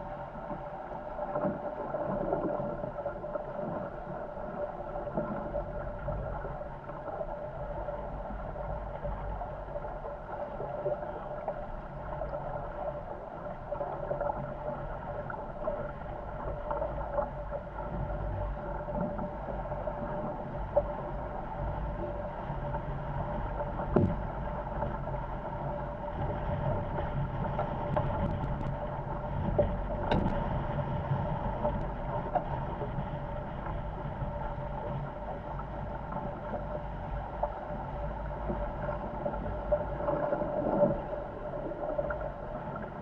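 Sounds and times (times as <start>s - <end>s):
steady hum: 0.0s - 43.0s
wind rumbling on microphone: 0.0s - 43.0s.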